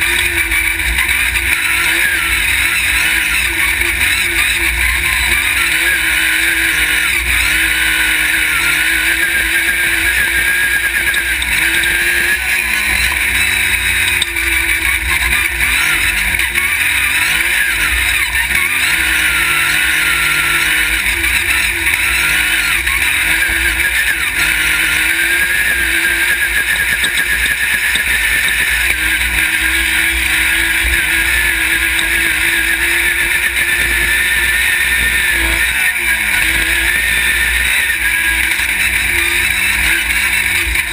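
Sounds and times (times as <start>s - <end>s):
buggy engine revving: 0.0s - 40.9s.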